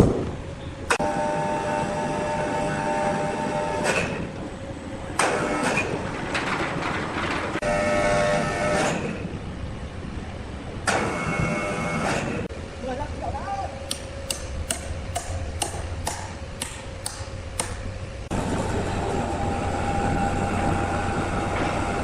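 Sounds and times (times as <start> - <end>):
sawmill machinery rumbling: 0.9 - 12.8, 13.8 - 22.0.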